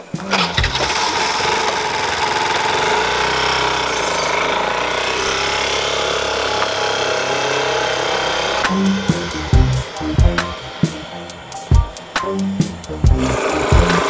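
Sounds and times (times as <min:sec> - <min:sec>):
motor scooter engine running: 0:00.0 - 0:14.0.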